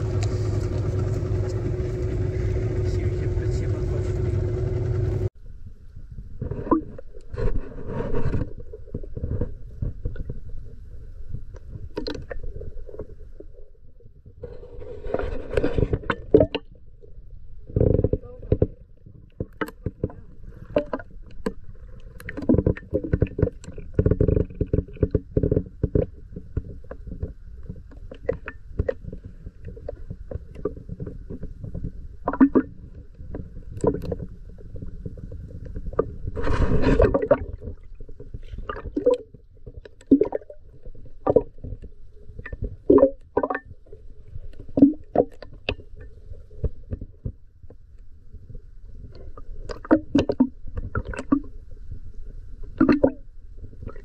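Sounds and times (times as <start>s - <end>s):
muffled underwater sloshing: 0.0s - 54.0s
knocks and clicks underwater: 6.1s - 54.0s.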